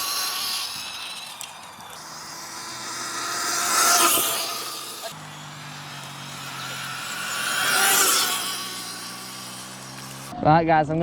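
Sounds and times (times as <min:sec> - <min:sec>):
electric dirt bike passing: 0:00.0 - 0:10.4.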